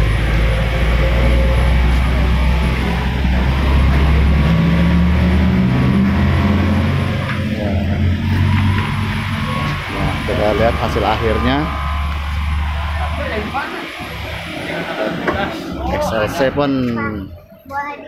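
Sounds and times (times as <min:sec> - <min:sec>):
vehicle engine low rumble: 0:00.0 - 0:17.8.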